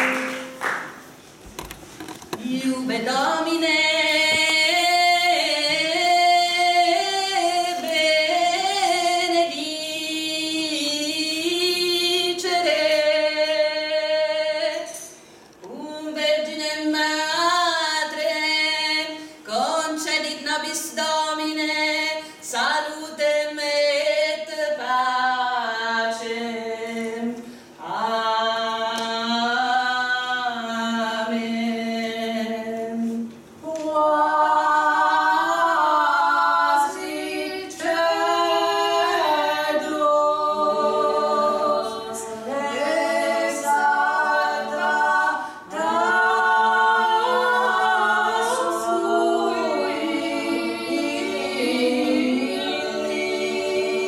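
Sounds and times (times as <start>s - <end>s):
women singing a cappella: 2.3s - 54.0s.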